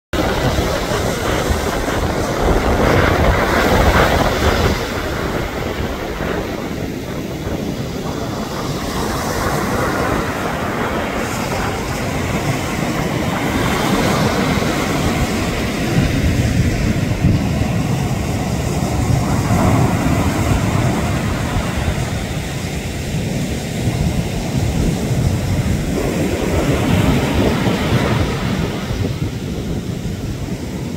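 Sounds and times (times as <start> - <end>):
ocean surf breaking: 0.1 - 30.9.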